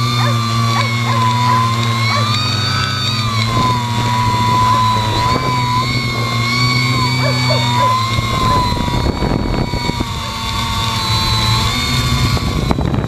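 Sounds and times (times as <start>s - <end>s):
drone propellers whining: 0.0s - 13.0s
wind buffeting microphone: 0.0s - 13.0s.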